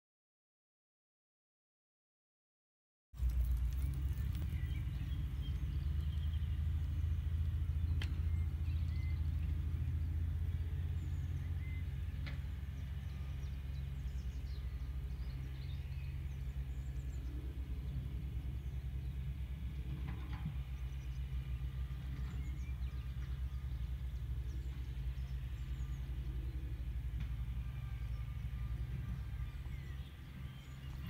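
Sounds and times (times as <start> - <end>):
low rumble: 3.2 - 31.0.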